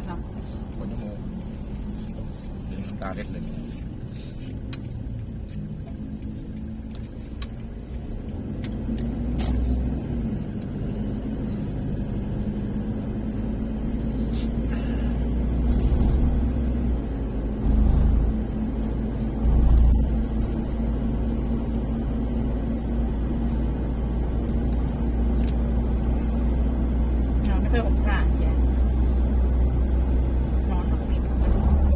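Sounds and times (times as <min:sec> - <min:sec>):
vehicle engine hum and road rumble: 0:00.0 - 0:31.9.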